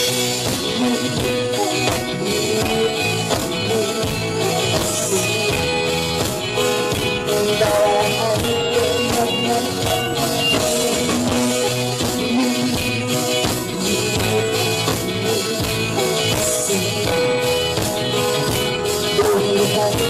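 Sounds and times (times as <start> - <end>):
keyboard: 0.0 - 20.0
steady drum beat: 0.0 - 20.0
strummed acoustic guitar: 0.0 - 20.0.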